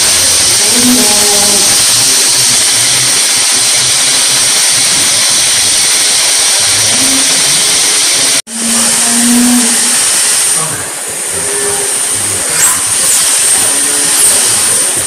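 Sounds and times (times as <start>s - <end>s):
milking machine hissing: 0.0s - 15.0s.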